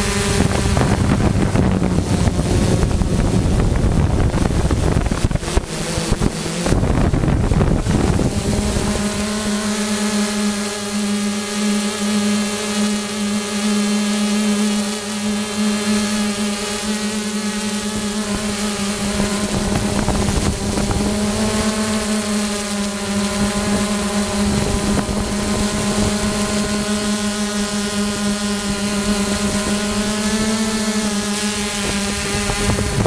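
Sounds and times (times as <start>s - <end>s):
wind buffeting microphone: 0.0s - 11.3s, 15.4s - 33.0s
drone propellers whining: 0.0s - 33.0s.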